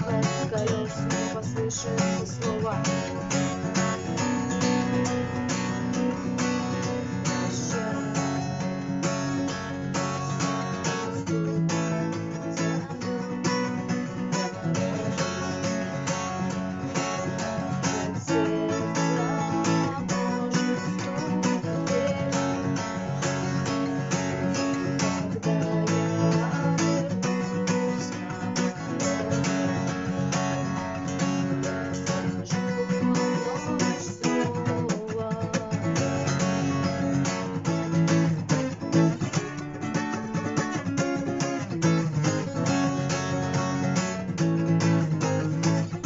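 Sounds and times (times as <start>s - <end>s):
acoustic guitar strumming: 0.0s - 46.0s.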